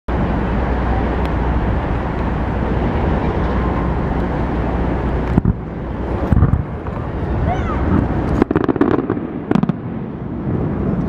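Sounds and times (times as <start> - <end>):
outdoor rumble and hiss: 0.1 - 11.0.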